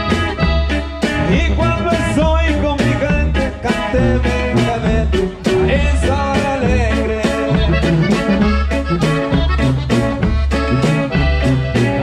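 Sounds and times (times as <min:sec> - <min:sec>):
drum kit: 0:00.0 - 0:12.0
live band dance music: 0:00.0 - 0:12.0
sousaphone bass line: 0:00.0 - 0:12.0.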